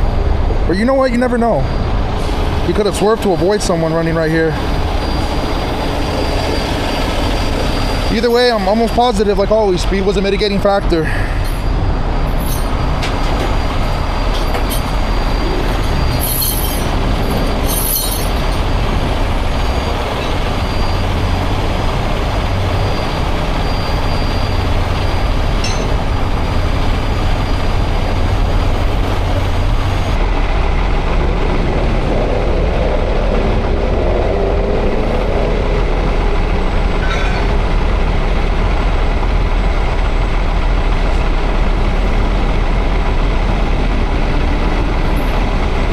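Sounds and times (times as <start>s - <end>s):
heavy vehicles rumbling: 0.0s - 45.9s.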